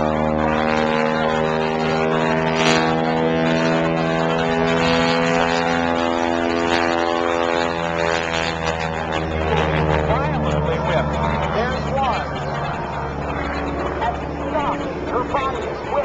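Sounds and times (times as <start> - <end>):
propeller airplane droning: 0.0 - 16.0.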